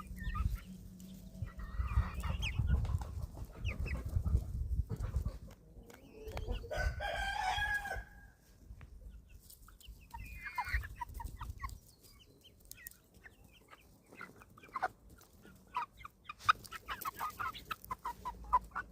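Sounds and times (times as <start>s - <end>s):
chickens clucking and chirping: 0.0s - 18.9s.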